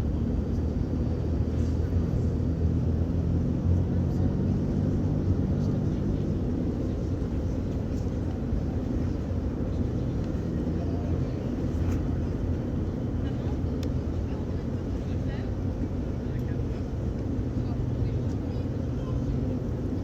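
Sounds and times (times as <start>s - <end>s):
ship engine rumble and hum: 0.0s - 20.0s.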